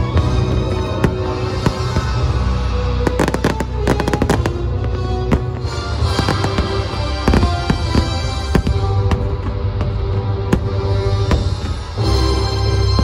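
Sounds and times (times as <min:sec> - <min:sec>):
fireworks bangs and crackling: 0:00.0 - 0:13.0
music: 0:00.0 - 0:13.0.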